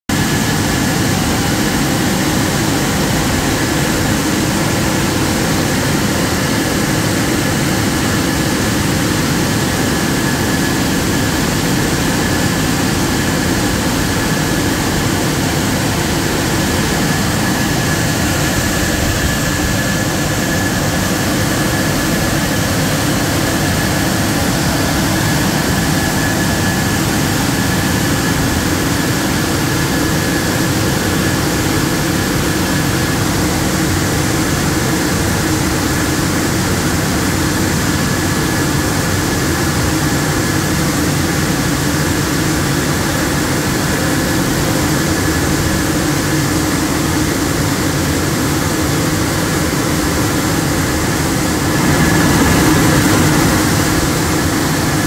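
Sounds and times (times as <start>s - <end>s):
car wash machine rushing: 0.1s - 55.0s
thin constant whine: 0.2s - 55.0s.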